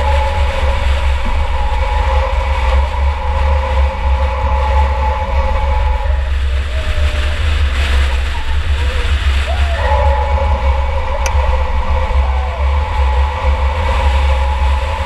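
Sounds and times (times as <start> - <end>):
race car engine rumbling: 0.0 - 15.0
two-note whine: 0.0 - 15.0.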